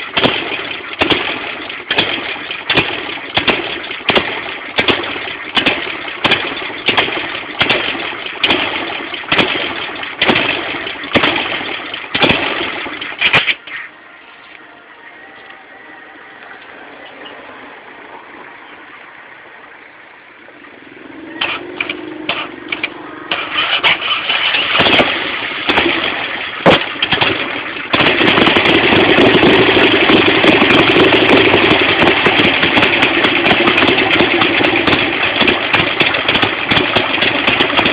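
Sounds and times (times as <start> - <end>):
motorcycle engine starting: 0.0 - 13.8, 20.3 - 37.9.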